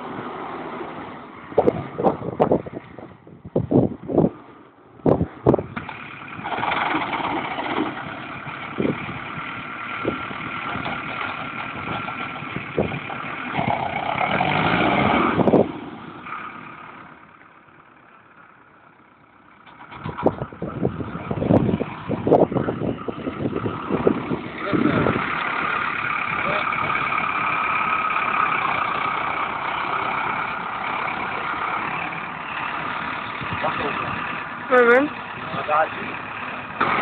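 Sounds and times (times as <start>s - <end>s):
tractor diesel engine under load: 0.0s - 37.0s.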